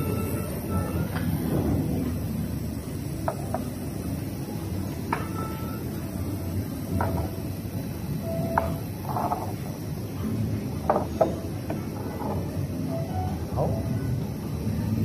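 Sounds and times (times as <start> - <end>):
low hum of dining room: 0.0 - 15.0.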